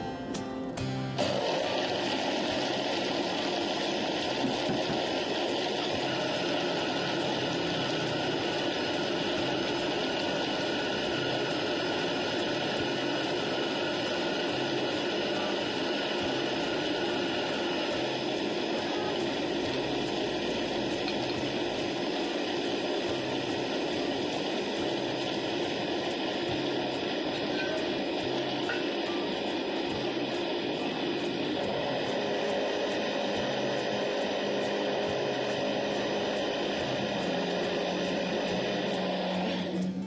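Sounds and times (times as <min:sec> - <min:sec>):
blender crushing ice: 0:01.2 - 0:40.0.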